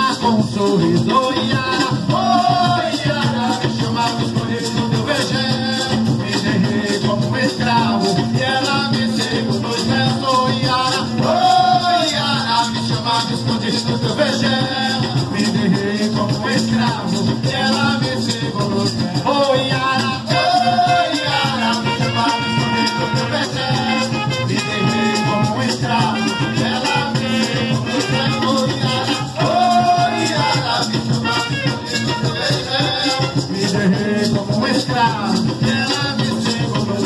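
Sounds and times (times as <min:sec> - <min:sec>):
drums keeping a steady beat: 0:00.0 - 0:37.0
maracas shaking: 0:00.0 - 0:37.0.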